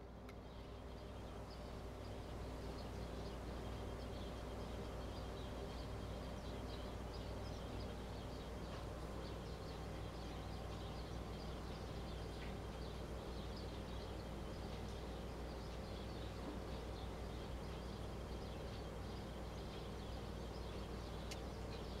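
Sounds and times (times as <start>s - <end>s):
birds chirping: 0.0s - 22.0s
steady low hum: 0.0s - 22.0s.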